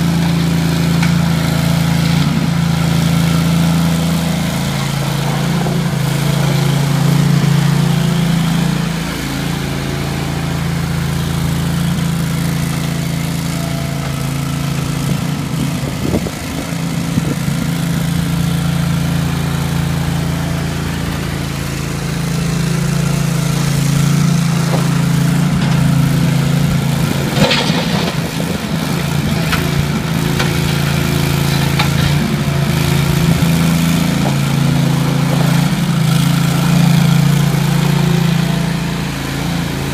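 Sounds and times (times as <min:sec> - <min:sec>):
skid loader engine running: 0:00.0 - 0:39.9.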